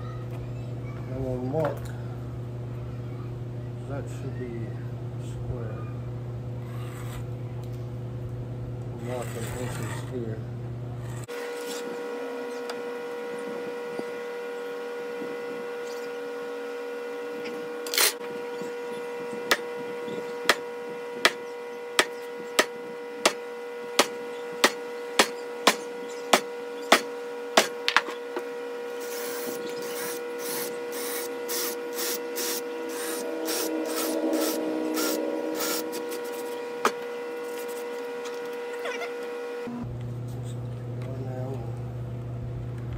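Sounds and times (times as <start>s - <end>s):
steady electrical hum: 0.0s - 42.9s.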